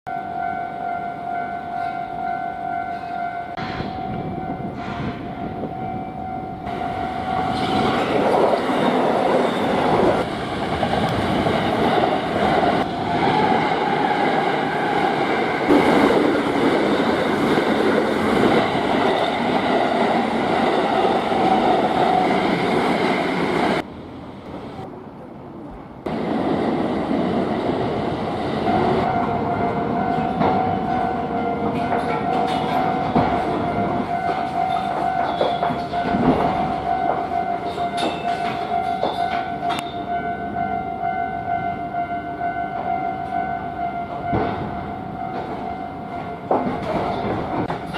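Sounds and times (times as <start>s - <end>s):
train rumble and rail clatter: 0.2s - 47.9s.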